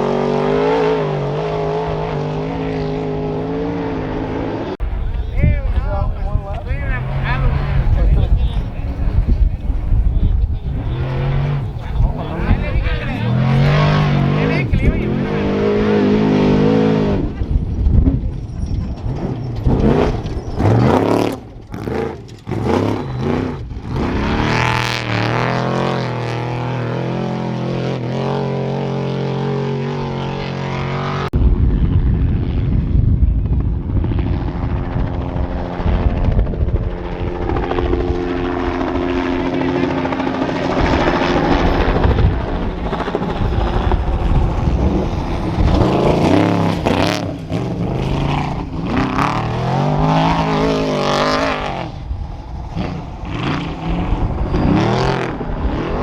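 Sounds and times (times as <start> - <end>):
truck engines revving and passing: 0.0 - 31.4, 33.5 - 56.0.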